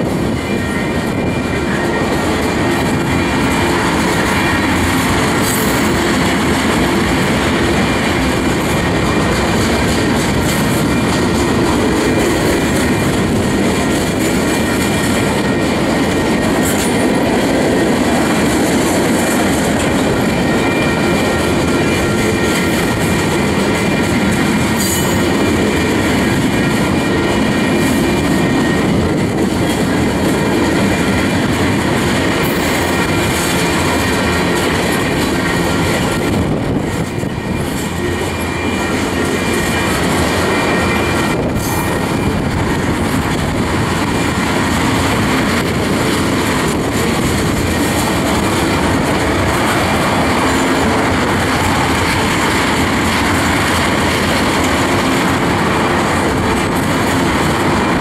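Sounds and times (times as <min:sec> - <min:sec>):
wheels clattering over rail joints: 0:00.0 - 0:58.0.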